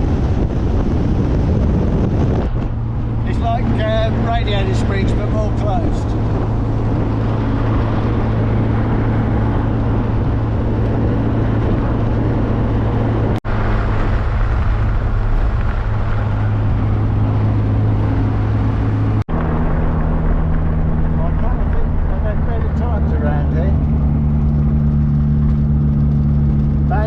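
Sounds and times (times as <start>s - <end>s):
car engine drone: 0.0s - 27.0s
tyre and wind noise: 0.0s - 27.0s.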